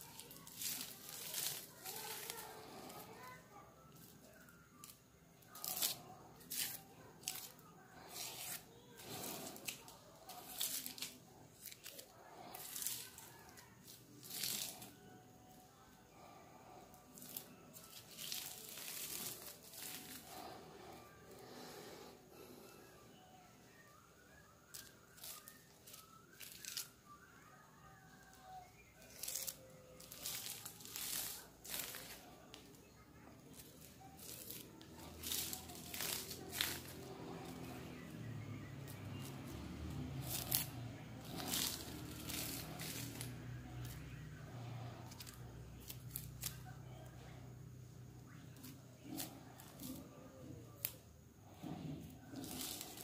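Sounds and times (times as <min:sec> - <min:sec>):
plastic strips crinkling: 0:00.0 - 0:15.6, 0:16.2 - 0:22.6, 0:24.7 - 0:27.3, 0:28.1 - 0:47.3, 0:48.3 - 0:51.0, 0:51.6 - 0:53.0
plastic raffia rustling and scraping: 0:00.0 - 0:22.8, 0:23.6 - 0:53.0.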